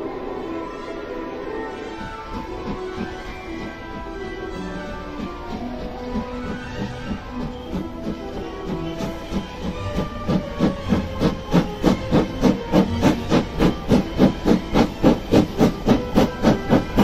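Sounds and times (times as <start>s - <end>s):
steam locomotive chuffing: 1.2s - 17.0s
steam hiss: 1.4s - 17.0s.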